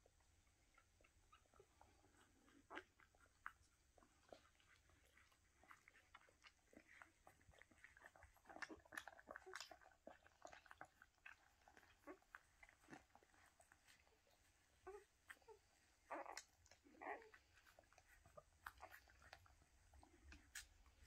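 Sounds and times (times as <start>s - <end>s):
puppies suckling wet smacking: 0.0s - 21.0s
dog licking: 0.4s - 21.0s.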